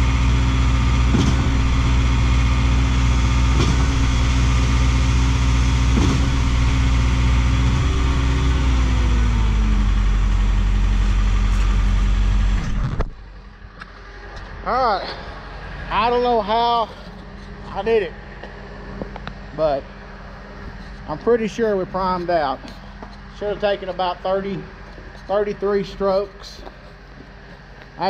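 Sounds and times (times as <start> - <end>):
concrete pump engine running: 0.0 - 28.0.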